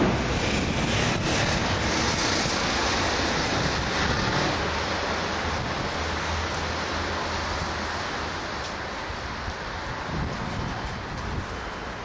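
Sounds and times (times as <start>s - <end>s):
street traffic rushing: 0.0s - 12.0s.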